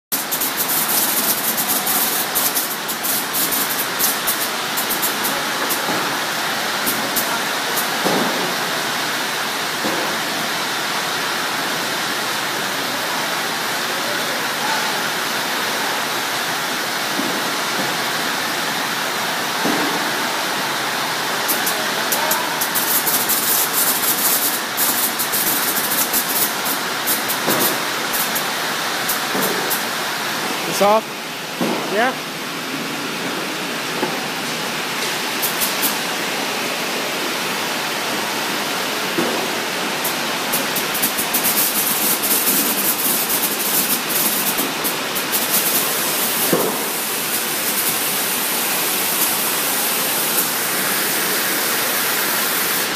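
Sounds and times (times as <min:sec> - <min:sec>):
sorting machine hiss and rumble: 0:00.1 - 0:52.9.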